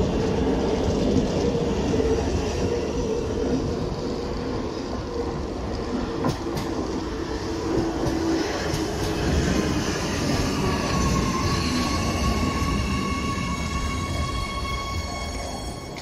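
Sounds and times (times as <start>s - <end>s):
steady train whine: 0.0s - 16.0s
wheels rumbling on rails: 0.0s - 16.0s.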